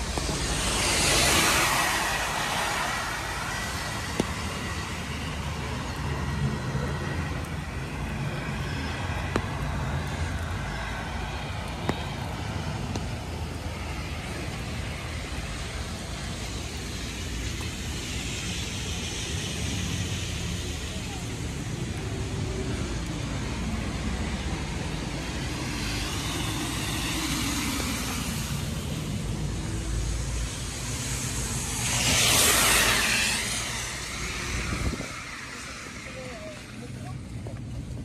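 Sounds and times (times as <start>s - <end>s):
low traffic rumble: 0.0s - 38.0s
tyres hissing on wet asphalt: 0.0s - 38.0s.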